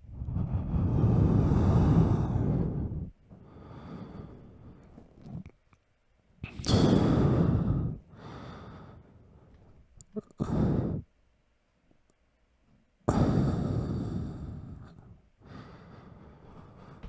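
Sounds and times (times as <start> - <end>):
person breathing heavily: 0.0 - 5.5, 6.5 - 11.1, 13.1 - 17.0.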